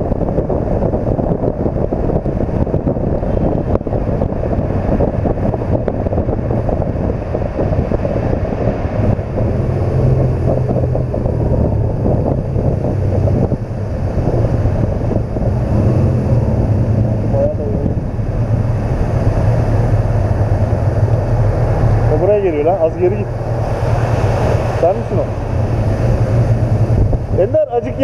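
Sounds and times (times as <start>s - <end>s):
motorcycle engine running: 0.0s - 27.6s
wind buffeting microphone: 0.0s - 28.0s.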